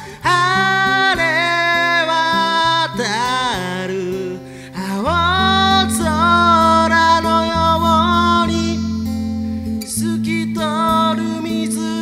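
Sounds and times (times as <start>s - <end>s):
acoustic guitar: 0.0s - 12.0s
man singing long notes: 0.0s - 12.0s.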